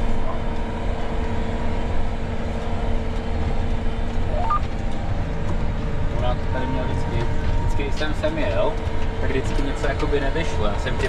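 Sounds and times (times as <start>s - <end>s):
tractor diesel engine rumble: 0.0s - 11.0s.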